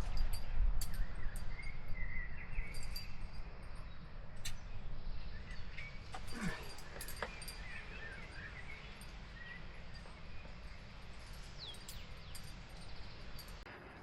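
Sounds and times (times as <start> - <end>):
bird chirping: 0.0 - 13.7.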